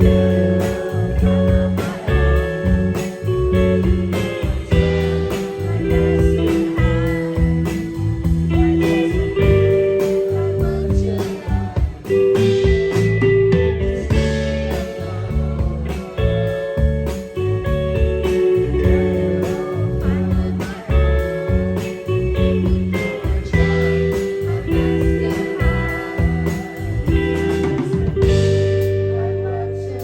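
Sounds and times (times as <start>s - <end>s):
band music: 0.0s - 30.0s
sliding guitar notes: 0.0s - 30.0s.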